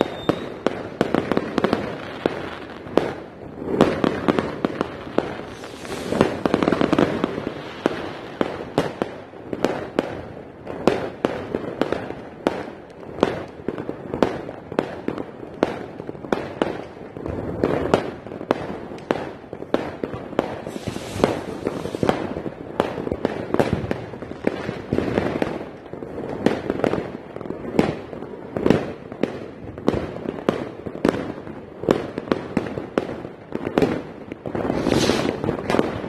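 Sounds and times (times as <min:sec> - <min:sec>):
fireworks bangs and pops: 0:00.0 - 0:36.0.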